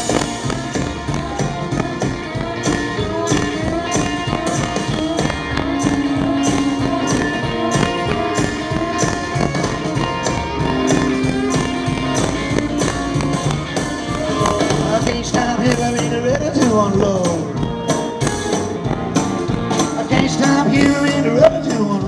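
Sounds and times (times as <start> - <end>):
blues band playing instrumental: 0.0 - 22.0.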